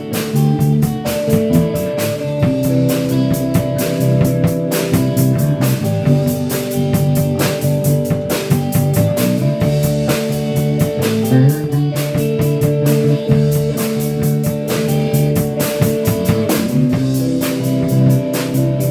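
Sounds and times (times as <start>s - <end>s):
drum kit beat: 0.0s - 18.9s
electric guitar chords: 0.0s - 18.9s.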